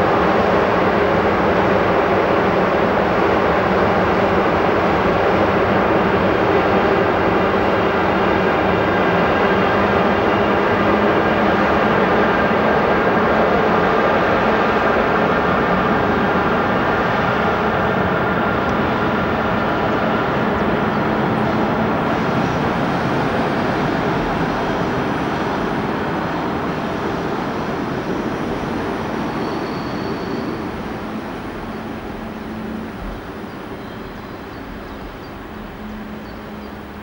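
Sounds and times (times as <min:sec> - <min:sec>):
train passing: 0:00.0 - 0:37.0.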